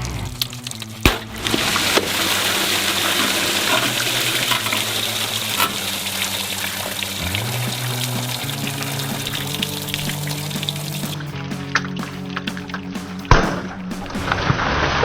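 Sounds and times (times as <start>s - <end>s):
water rushing into washing machine: 1.2s - 13.5s.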